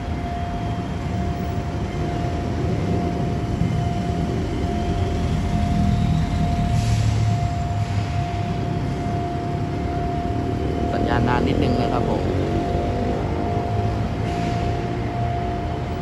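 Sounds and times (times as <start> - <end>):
road traffic rumble: 0.0 - 16.0
steady high ringing tone: 0.0 - 16.0.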